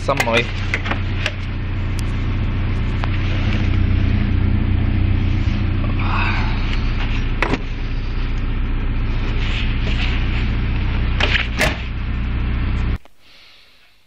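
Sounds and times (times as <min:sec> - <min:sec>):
car engine humming: 0:00.0 - 0:13.5.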